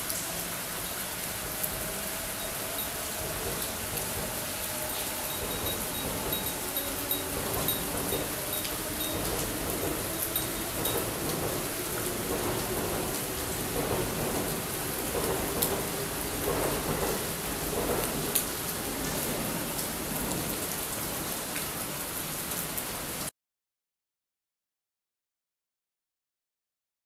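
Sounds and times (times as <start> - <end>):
raindrops ticking on surfaces: 0.0 - 23.3
steady rain falling: 0.0 - 23.3.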